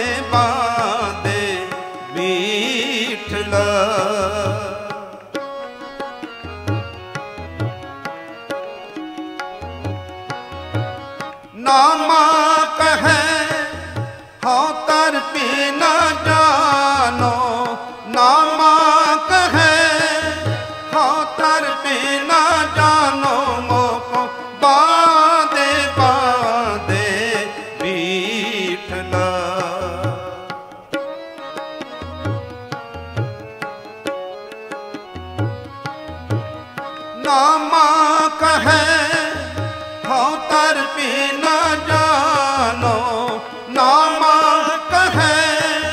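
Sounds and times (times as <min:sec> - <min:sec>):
harmonium: 0:00.0 - 0:45.9
tabla beat: 0:00.0 - 0:45.9.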